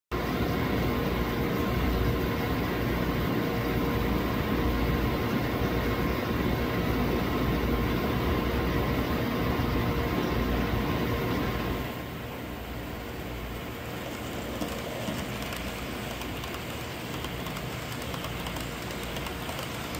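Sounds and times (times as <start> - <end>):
model train running: 0.2 - 19.9.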